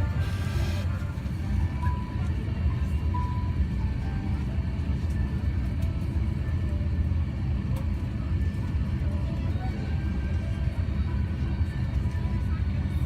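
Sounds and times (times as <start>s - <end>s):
faint boarding music: 0.0s - 13.0s.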